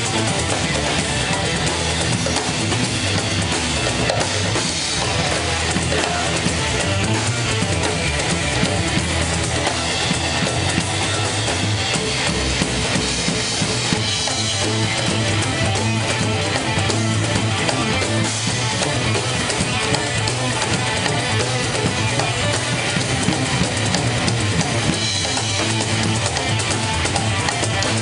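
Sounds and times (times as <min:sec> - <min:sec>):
congas: 0:00.0 - 0:28.0
live rock-funk band playing: 0:00.0 - 0:28.0.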